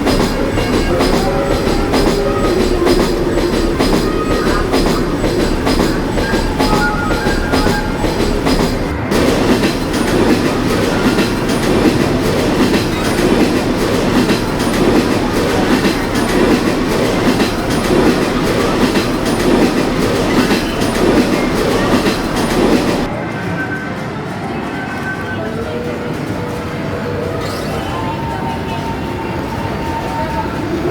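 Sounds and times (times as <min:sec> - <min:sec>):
amusement train clattering rumble: 0:00.0 - 0:27.4.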